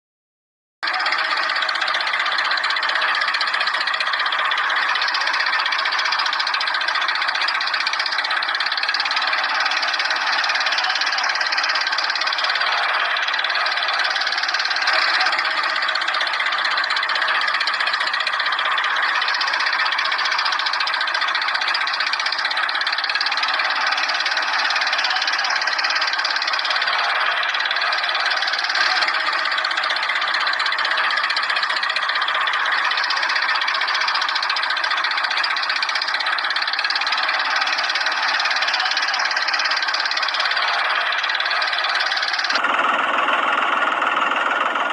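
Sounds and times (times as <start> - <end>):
toy tractor motor running: 0.8 - 44.9.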